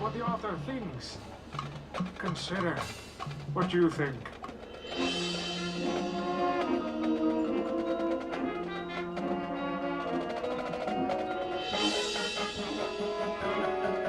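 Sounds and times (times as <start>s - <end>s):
marching band sustained chords: 0.0s - 14.0s
percussion strikes: 0.0s - 14.0s.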